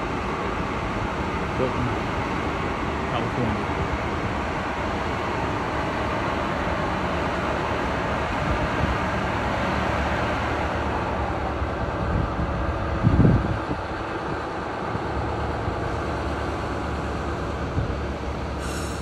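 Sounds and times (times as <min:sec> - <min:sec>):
diesel locomotive running: 0:00.0 - 0:19.0.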